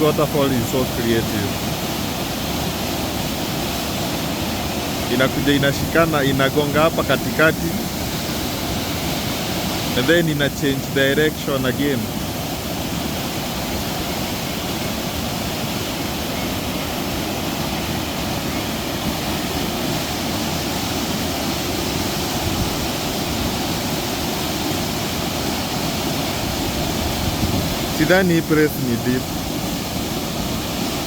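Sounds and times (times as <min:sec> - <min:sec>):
waterfall rushing water: 0:00.0 - 0:31.0.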